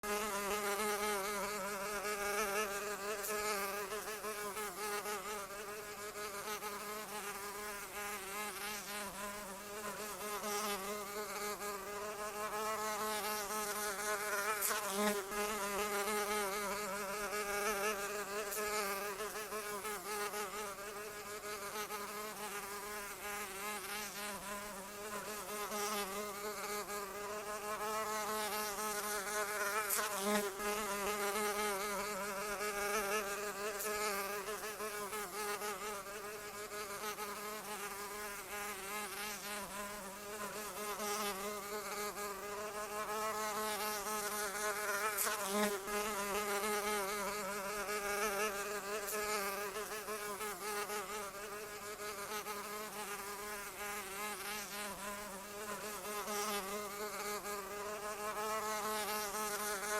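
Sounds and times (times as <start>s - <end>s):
insect wings buzzing: 0.0s - 59.9s.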